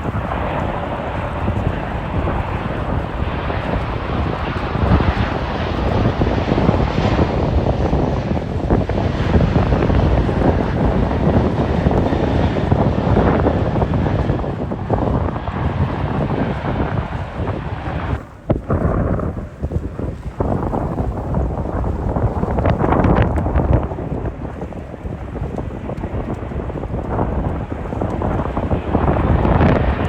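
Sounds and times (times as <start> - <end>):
airliner engines passing: 0.0 - 30.0
wind buffeting microphone: 0.0 - 30.0.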